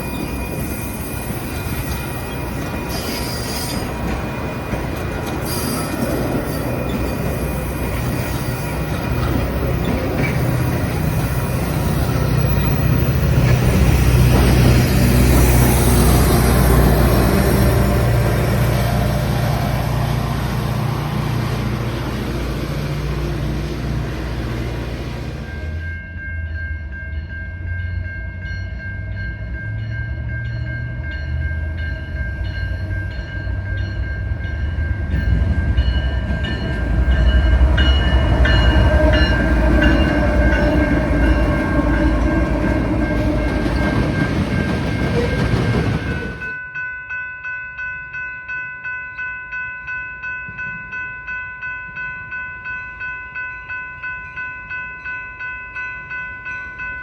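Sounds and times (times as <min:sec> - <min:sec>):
train rumble and wheel clatter: 0:00.0 - 0:47.2, 0:49.8 - 0:57.0
railroad crossing bell ringing: 0:00.0 - 0:57.0.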